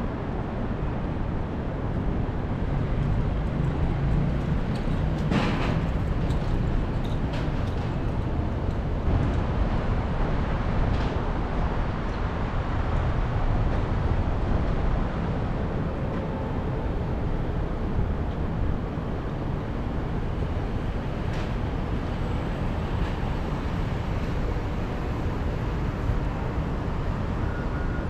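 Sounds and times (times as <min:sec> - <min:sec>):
city traffic rumble: 0:00.0 - 0:28.0.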